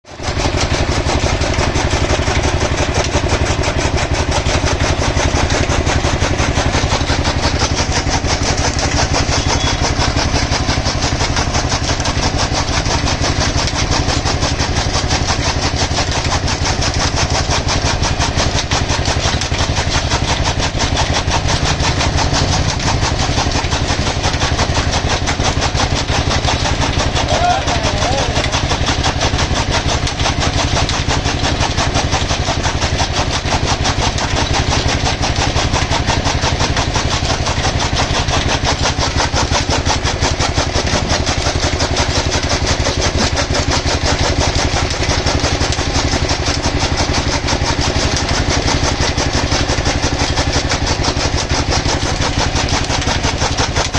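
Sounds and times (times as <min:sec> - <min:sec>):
chaff cutter chopping fodder: 0:00.1 - 0:53.9.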